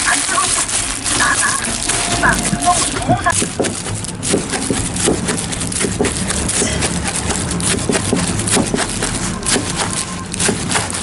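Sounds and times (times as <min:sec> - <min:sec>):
steady background din: 0:00.0 - 0:11.0.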